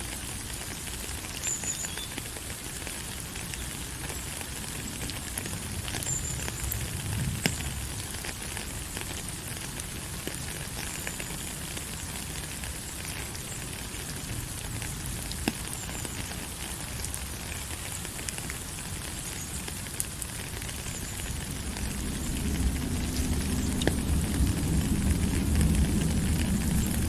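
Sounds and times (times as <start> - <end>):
small crackles and ticks: 0.0 - 27.0.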